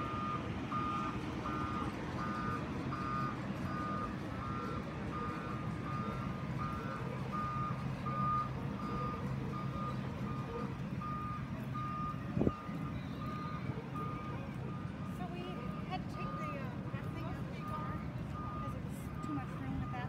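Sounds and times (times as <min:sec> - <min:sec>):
back-up alarm beeping: 0:00.0 - 0:20.0
heavy machinery humming: 0:00.0 - 0:20.0.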